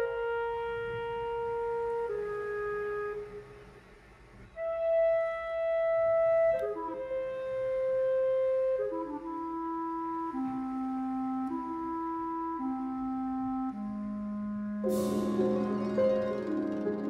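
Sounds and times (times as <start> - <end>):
slow woodwind melody: 0.0 - 3.7, 4.5 - 17.0.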